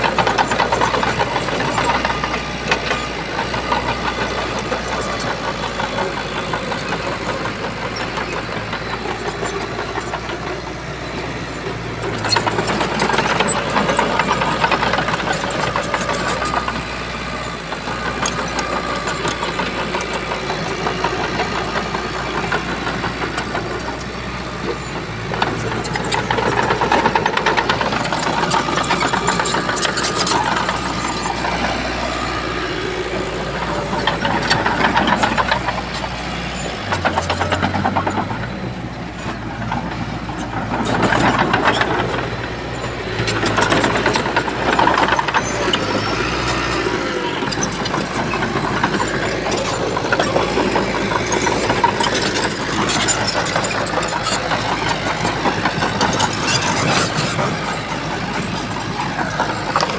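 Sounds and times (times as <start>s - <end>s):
bulldozer engine under load: 0.0s - 59.9s.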